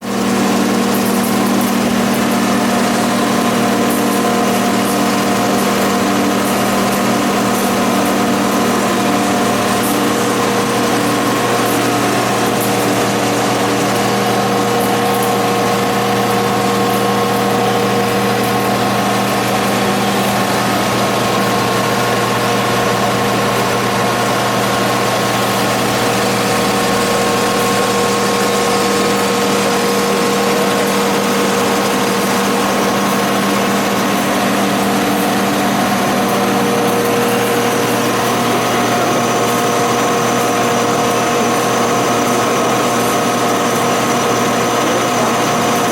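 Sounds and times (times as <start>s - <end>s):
drilling machine humming and whining: 0.0s - 45.9s.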